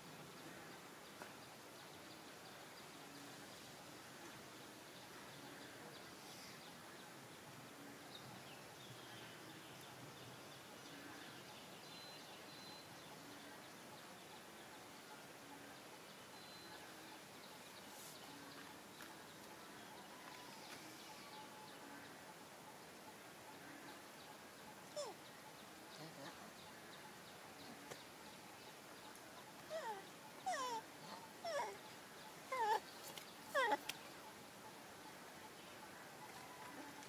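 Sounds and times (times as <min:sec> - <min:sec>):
faint outdoor background hiss: 0:00.0 - 0:37.0.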